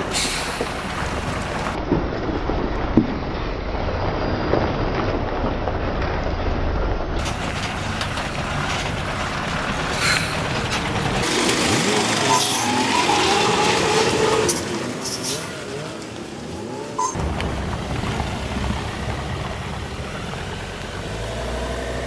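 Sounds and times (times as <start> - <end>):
truck diesel engine: 0.0 - 22.0.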